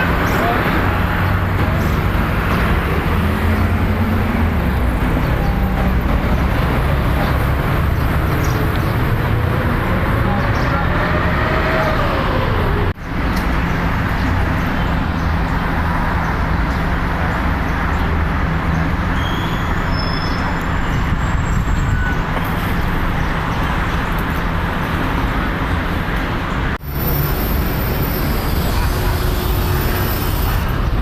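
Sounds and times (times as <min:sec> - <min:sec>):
city traffic: 0:00.0 - 0:31.0.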